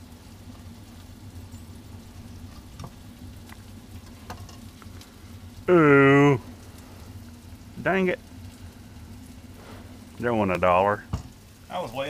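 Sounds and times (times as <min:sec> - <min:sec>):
low steady hum: 0:00.0 - 0:12.0
onions sizzling in pan: 0:00.0 - 0:12.0.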